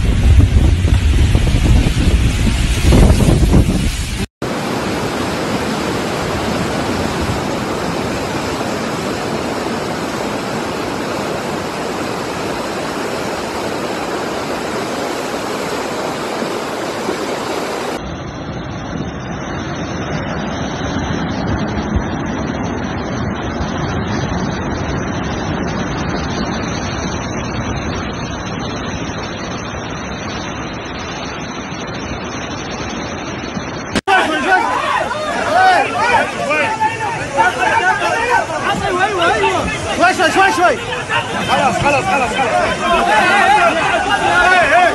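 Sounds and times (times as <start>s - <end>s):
floodwater rushing and churning: 0.0s - 44.9s
torrent over rocks: 0.0s - 44.9s.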